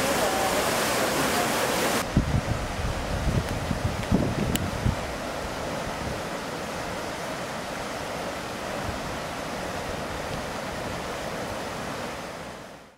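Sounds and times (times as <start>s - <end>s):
churning water rushing: 0.0s - 12.9s.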